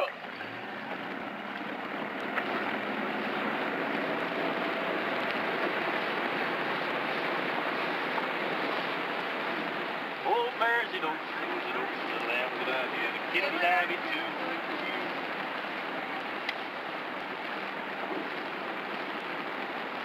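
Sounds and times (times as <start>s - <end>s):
motorboat running at speed: 0.0s - 20.0s.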